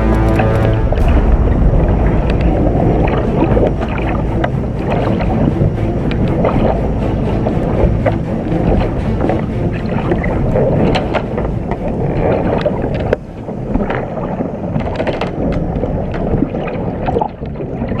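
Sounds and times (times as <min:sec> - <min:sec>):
sharp splashes and knocks: 0:00.0 - 0:18.0
water rushing against hulls: 0:00.0 - 0:18.0
wind buffeting microphone: 0:00.0 - 0:18.0.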